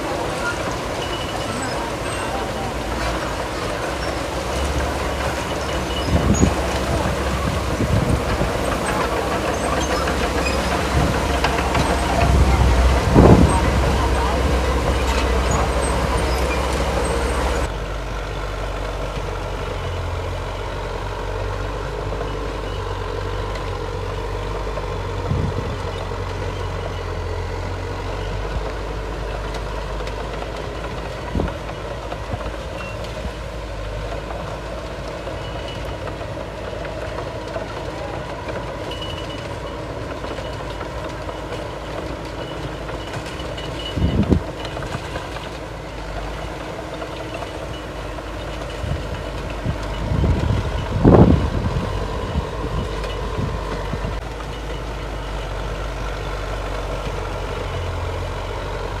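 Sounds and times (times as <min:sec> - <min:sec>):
diesel earthmoving machinery: 0:00.0 - 0:59.0.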